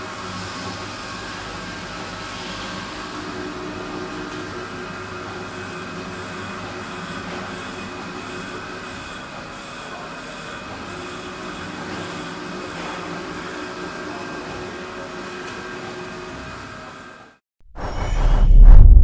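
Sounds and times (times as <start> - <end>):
milling machine hum and whine: 0.0 - 17.3.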